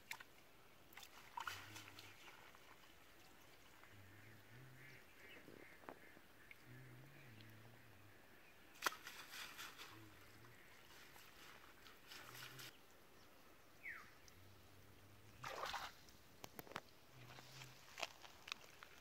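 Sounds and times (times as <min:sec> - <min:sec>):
muddy water splashing: 0:00.0 - 0:07.6, 0:08.6 - 0:12.8, 0:15.3 - 0:19.0.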